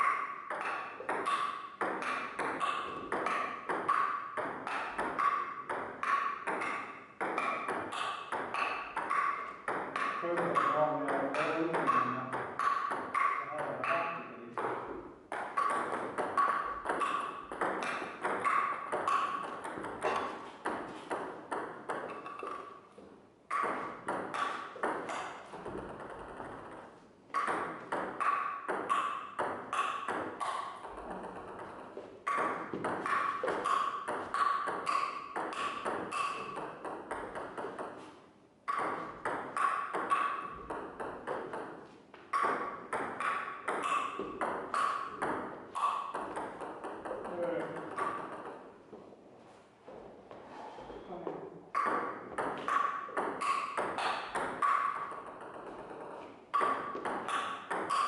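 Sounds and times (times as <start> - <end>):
rapid clicking taps with pings: 0.0 - 22.6, 23.5 - 26.8, 27.4 - 38.0, 38.7 - 41.8, 42.4 - 48.6, 51.8 - 58.0.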